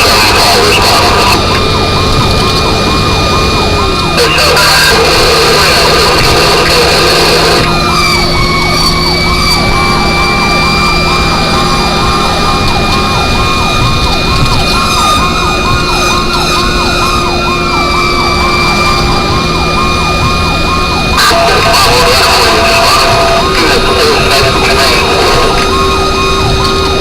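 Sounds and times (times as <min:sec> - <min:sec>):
fire engine siren yelping: 0:00.0 - 0:27.0
steady high tone: 0:00.0 - 0:27.0
truck engine running: 0:00.0 - 0:27.0.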